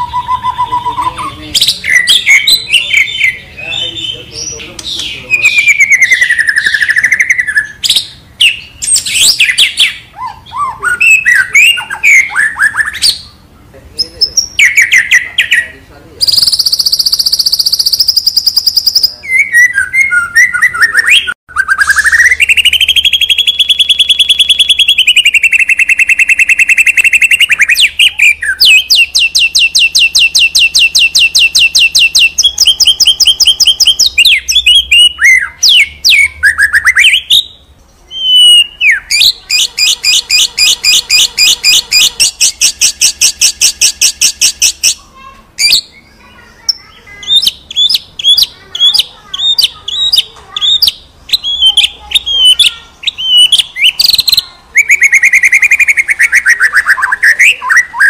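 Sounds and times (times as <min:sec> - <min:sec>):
bird singing trills and whistles: 0:00.0 - 0:13.4, 0:14.0 - 0:45.0, 0:45.6 - 0:58.0.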